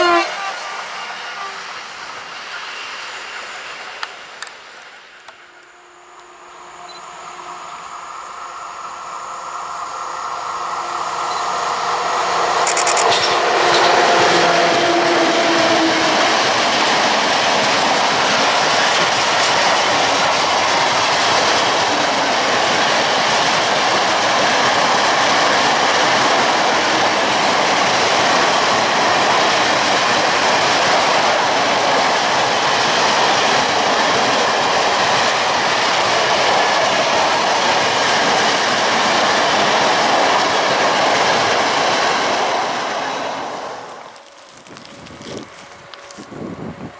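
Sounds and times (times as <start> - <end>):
locomotive hum passing: 0.0 - 46.9.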